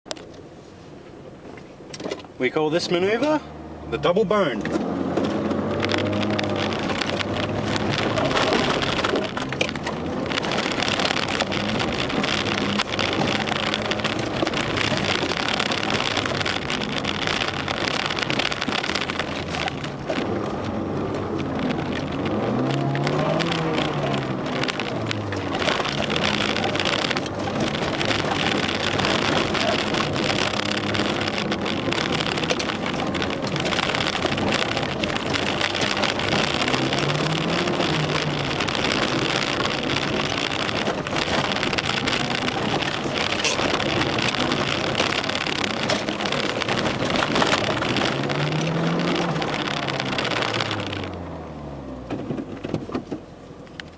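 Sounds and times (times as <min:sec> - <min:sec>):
tyres on gravel and wind: 0:00.0 - 0:53.9
car engine revving: 0:02.4 - 0:53.9.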